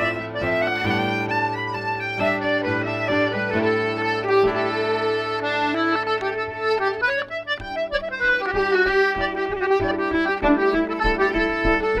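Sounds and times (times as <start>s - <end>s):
accordion melody: 0.0s - 12.0s
fiddle: 0.0s - 12.0s
guitar strumming chords: 0.0s - 12.0s.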